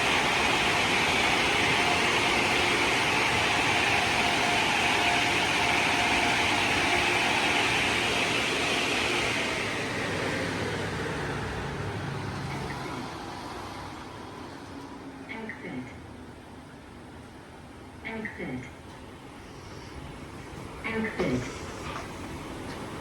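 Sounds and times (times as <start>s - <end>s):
automatic car wash rushing: 0.0s - 15.4s, 18.8s - 23.0s.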